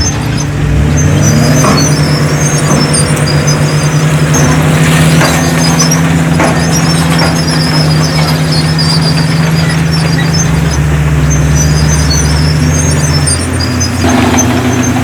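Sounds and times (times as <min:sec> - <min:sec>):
heavy diesel machinery running: 0:00.0 - 0:15.0
high squeaks: 0:00.0 - 0:15.0.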